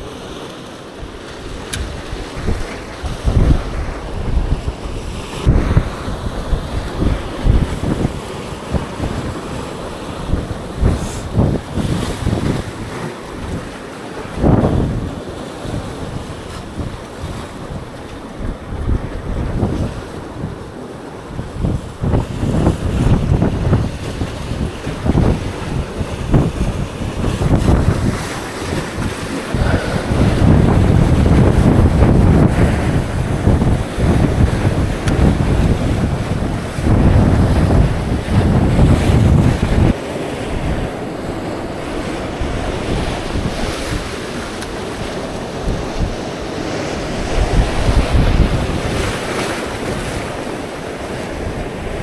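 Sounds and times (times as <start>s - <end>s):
waves washing in: 0.0s - 52.0s
wind buffeting microphone: 0.9s - 52.0s.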